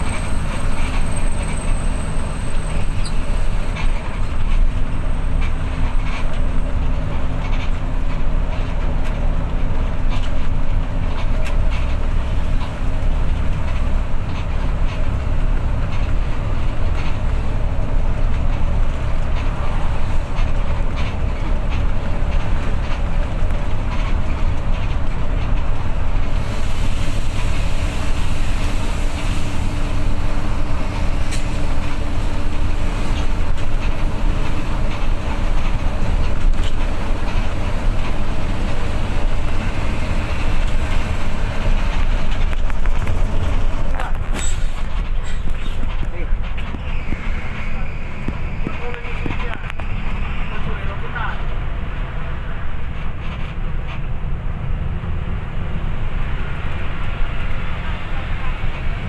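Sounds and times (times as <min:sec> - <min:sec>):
rattles and clicks: 0:00.0 - 0:26.4, 0:28.9 - 0:51.6, 0:52.8 - 0:54.2
bus engine and road noise: 0:00.0 - 0:59.0.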